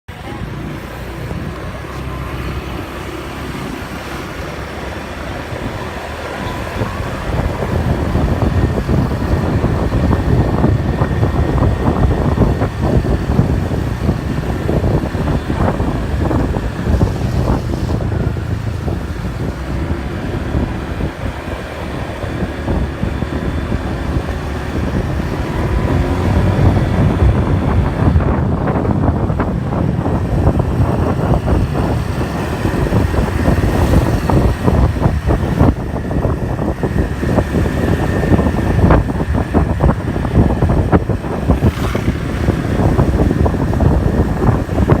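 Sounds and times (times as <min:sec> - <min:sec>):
wind buffeting microphone: 0:00.1 - 0:45.0.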